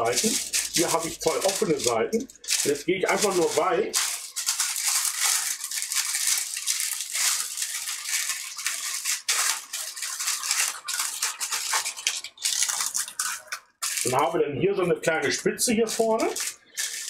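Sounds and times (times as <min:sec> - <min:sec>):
baking paper crinkling: 0:00.0 - 0:17.0.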